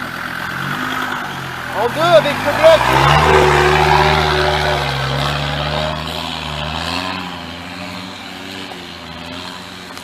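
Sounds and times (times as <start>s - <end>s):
car engine driving off: 0.0s - 10.0s.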